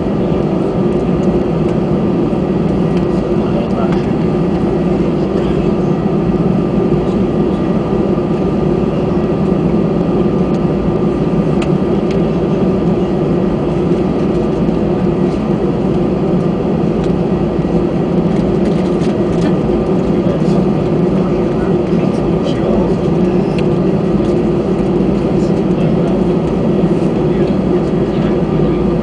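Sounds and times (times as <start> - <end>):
airliner cabin engine noise: 0.0 - 29.0.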